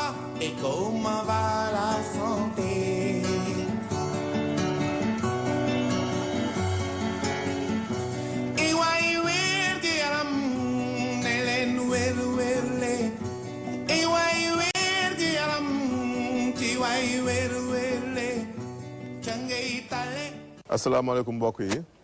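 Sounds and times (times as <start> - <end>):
person singing: 0.0 - 3.9, 5.8 - 20.6
plucked acoustic guitar: 0.0 - 20.6.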